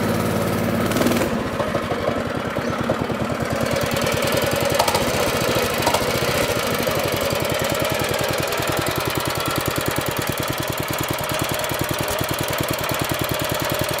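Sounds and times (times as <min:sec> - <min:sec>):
go-kart engine idling: 0:00.0 - 0:14.0.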